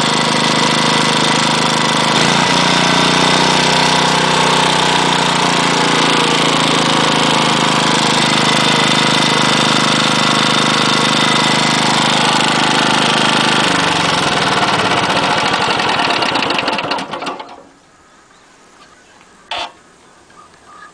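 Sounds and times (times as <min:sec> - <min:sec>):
engine running with knock: 0:00.0 - 0:17.7.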